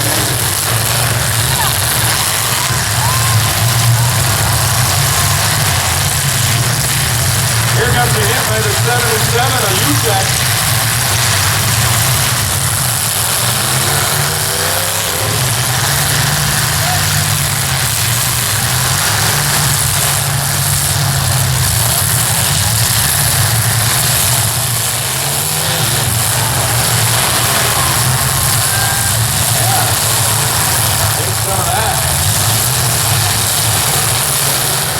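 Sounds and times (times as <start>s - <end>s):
car engines droning and revving: 0.0s - 34.9s.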